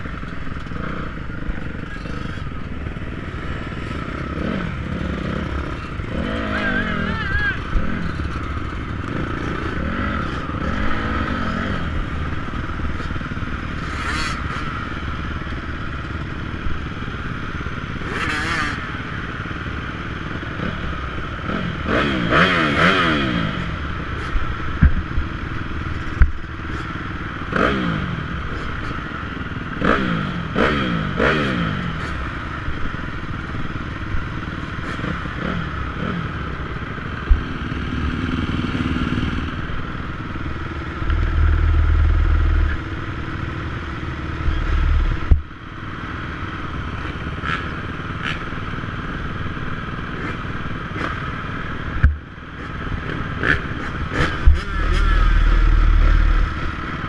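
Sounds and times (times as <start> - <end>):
motocross bikes idling and revving: 0.0 - 57.0.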